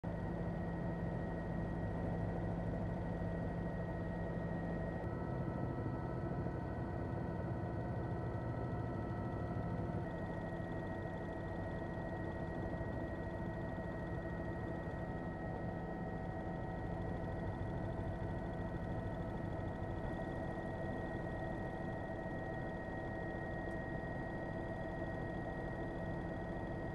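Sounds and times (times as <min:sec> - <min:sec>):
helicopter engine and rotors: 0:00.0 - 0:26.9.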